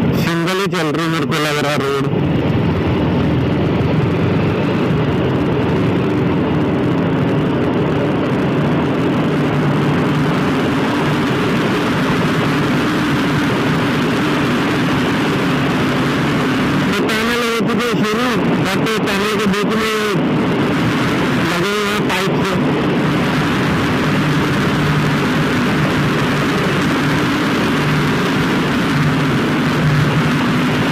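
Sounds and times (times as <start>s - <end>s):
wind and road noise: 0.0s - 30.9s
motorcycle engine cruising: 1.8s - 30.9s.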